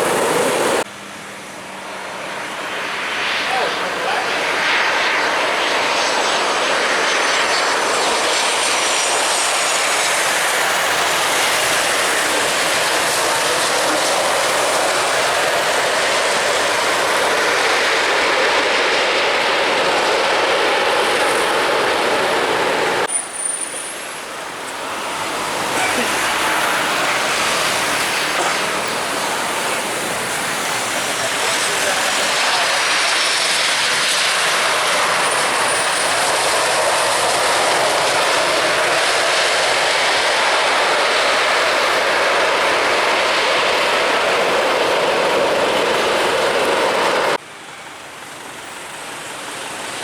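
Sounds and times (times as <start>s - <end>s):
jet engines rushing and whining: 0.0s - 50.0s.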